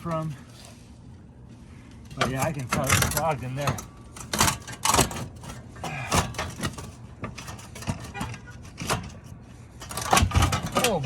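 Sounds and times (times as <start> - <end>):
vent piece scraping and knocking: 2.1 - 11.0.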